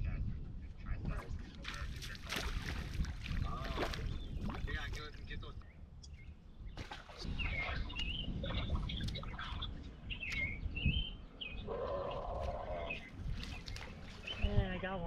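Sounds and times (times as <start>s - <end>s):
birds chirping: 0.8s - 15.0s.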